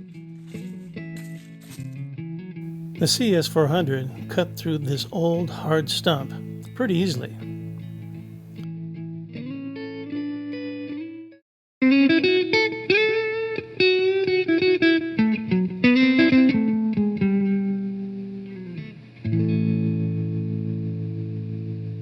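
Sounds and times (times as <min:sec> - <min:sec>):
guitar music with effects: 0:00.0 - 0:22.0.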